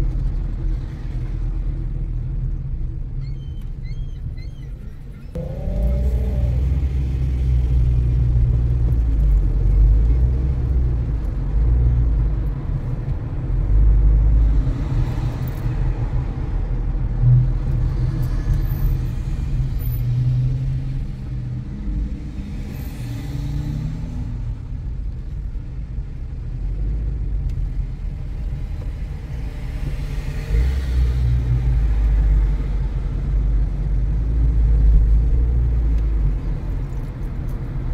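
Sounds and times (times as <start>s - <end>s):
car road noise rumble: 0.0s - 37.9s.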